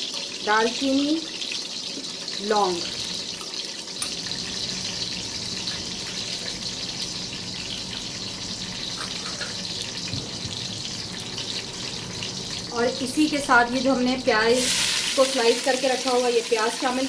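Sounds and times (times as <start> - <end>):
spices sizzling in hot fat: 0.0 - 17.0.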